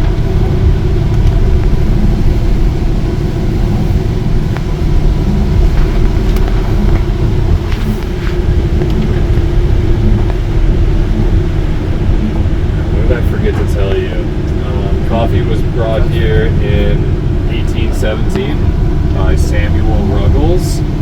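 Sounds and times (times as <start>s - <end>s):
constant hum: 0.0s - 21.0s
vehicle engine and road rumble: 0.0s - 21.0s.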